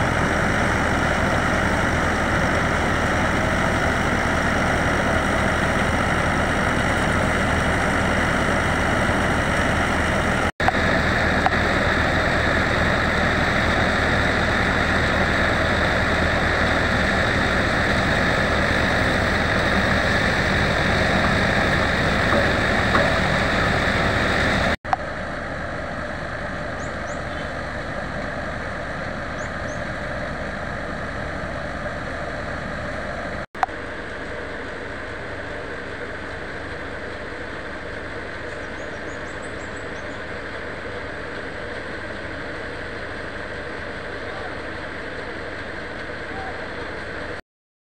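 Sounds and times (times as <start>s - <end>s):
threshing drum whirring: 0.0s - 47.4s
tractor diesel engine: 0.0s - 47.4s.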